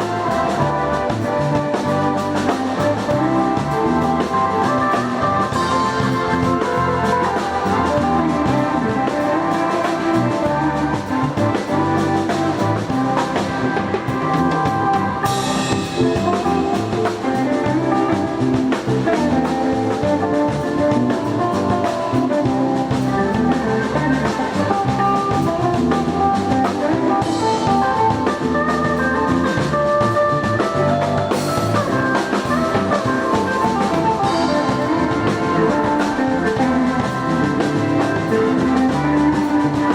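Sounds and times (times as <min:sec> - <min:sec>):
drum kit: 0:00.0 - 0:39.9
guitar playing: 0:00.0 - 0:39.9.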